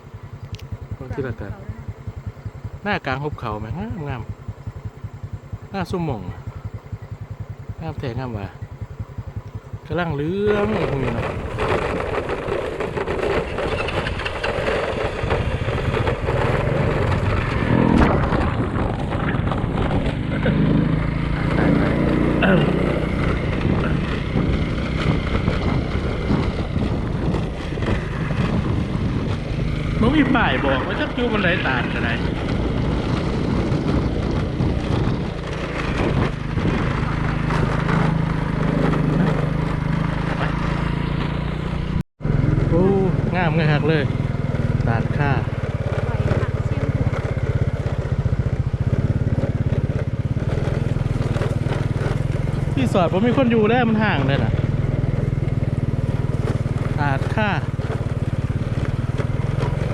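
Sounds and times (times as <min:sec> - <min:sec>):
vehicle engine running: 0:00.0 - 0:59.9
wind and road noise: 0:00.0 - 0:59.9.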